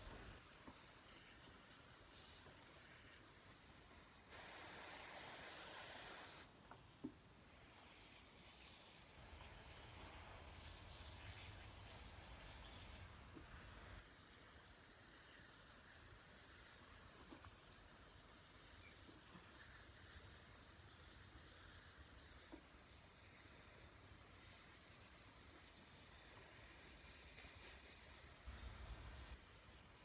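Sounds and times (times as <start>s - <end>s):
hose water hissing: 0.0s - 6.6s, 7.5s - 30.0s.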